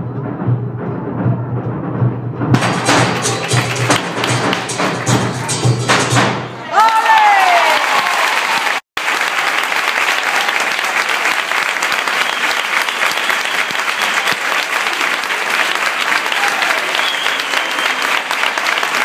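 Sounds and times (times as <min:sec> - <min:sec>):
crowd applauding: 0:02.6 - 0:19.0.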